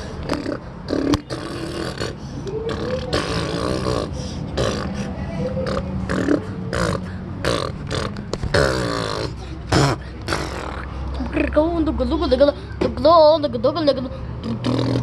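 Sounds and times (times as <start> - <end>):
person grunting and humming: 0.0 - 11.3, 14.0 - 15.0.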